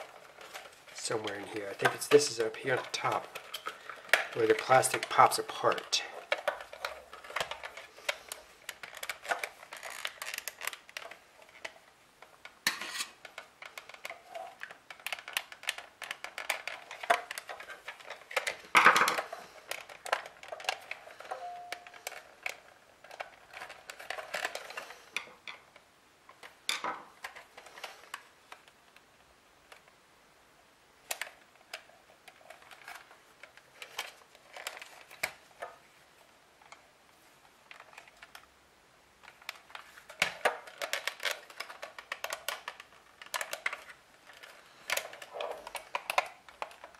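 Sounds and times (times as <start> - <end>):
plastic parts clicking and scraping: 0.0 - 30.0, 31.0 - 46.9.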